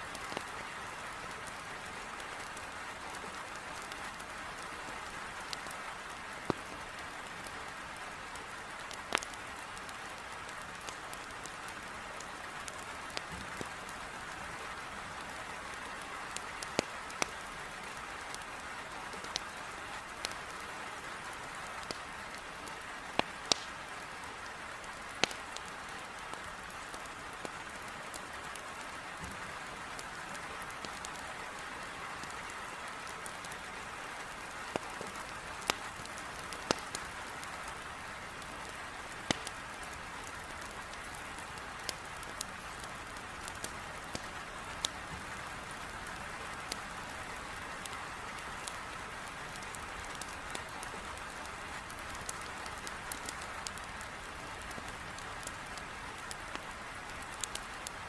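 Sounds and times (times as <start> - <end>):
firewood crackling in fireplace: 0.1 - 58.0
heavy rain on a window: 0.1 - 58.0.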